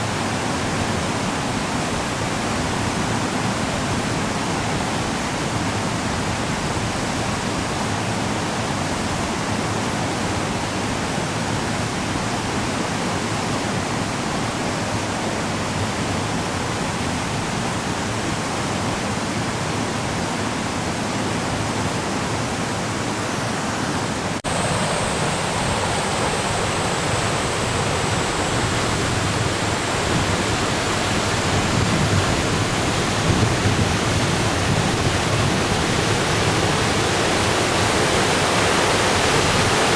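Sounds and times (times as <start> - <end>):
river rushing in a roar: 0.0 - 39.9.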